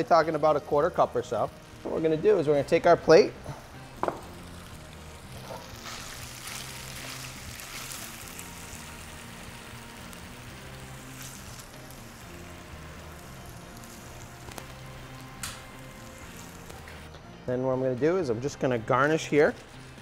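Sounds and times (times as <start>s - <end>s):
faint sizzling hiss of skillet: 0.0s - 17.1s.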